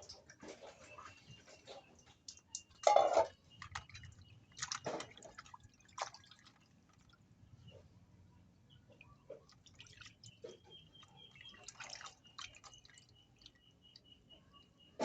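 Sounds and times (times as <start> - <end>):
hands washing meat in water: 0.0 - 7.3, 9.2 - 14.0.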